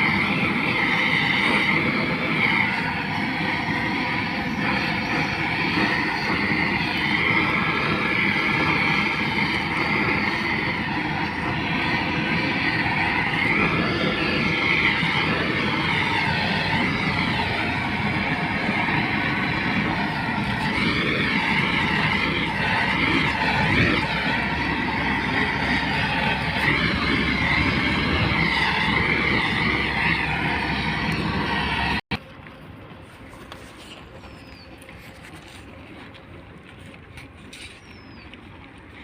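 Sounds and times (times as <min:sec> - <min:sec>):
wavering whistle: 0:00.0 - 0:32.0
blowtorch flame rushing: 0:00.0 - 0:32.1.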